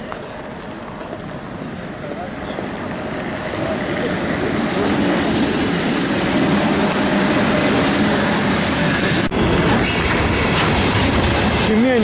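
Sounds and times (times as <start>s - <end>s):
freight train passing: 0.0s - 12.0s.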